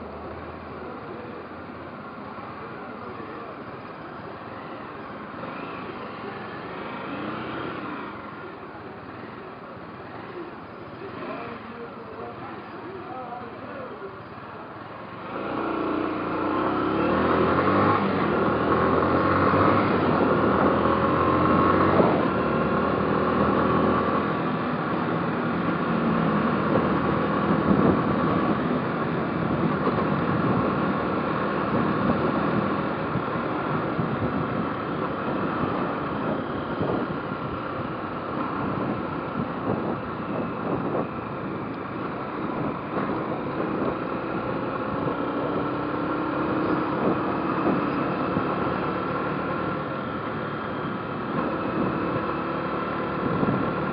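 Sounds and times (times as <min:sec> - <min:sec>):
motorcycle accelerating: 0:04.6 - 0:08.9, 0:11.0 - 0:11.8, 0:15.1 - 0:53.9.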